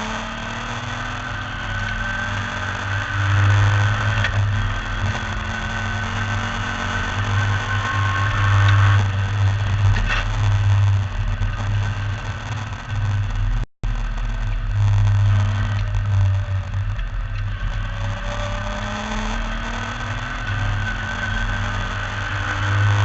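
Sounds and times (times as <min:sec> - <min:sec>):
race car engine running hard: 0:00.0 - 0:23.0.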